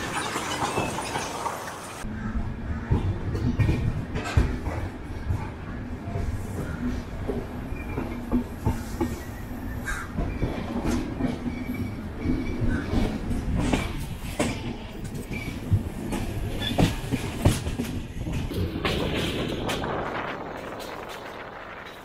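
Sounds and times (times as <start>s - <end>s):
wheels clacking over rail joints: 0.0s - 2.1s, 2.7s - 22.0s
train rumble: 0.0s - 22.0s.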